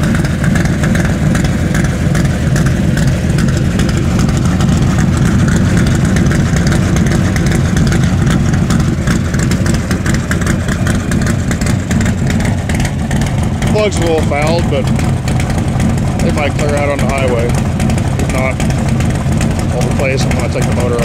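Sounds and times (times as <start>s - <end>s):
engine idling exhaust rumble: 0.0s - 21.0s.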